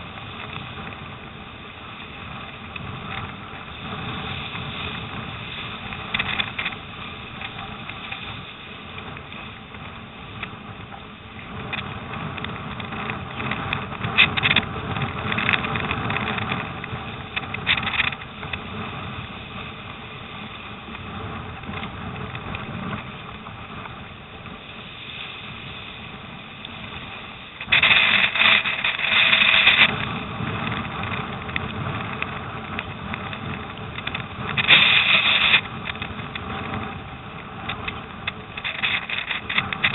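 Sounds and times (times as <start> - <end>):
water slapping against bow: 0.0 - 39.9
wind buffeting microphone: 0.0 - 39.9.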